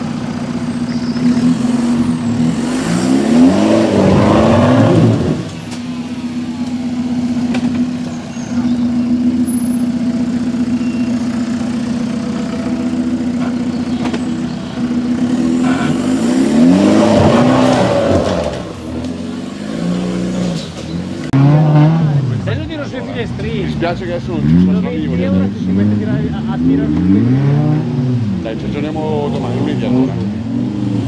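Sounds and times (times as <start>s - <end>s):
car engine pulling at low revs: 0.0s - 31.0s.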